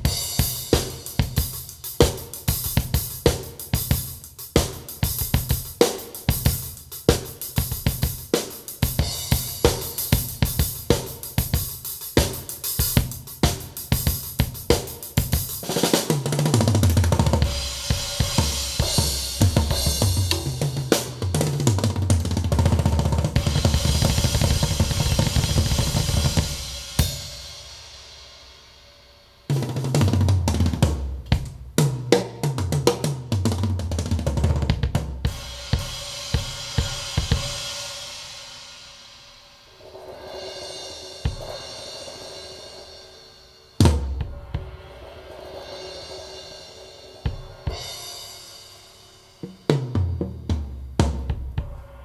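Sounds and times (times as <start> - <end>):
music with drum kit and bass line: 0.0 - 52.0.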